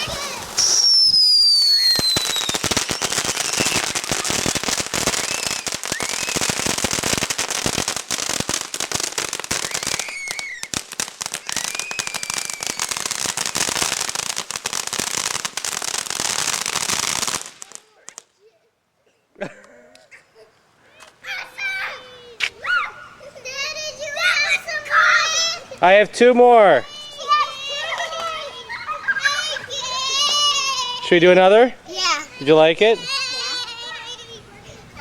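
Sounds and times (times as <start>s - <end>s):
fireworks crackling: 0.0s - 18.5s, 20.9s - 35.0s.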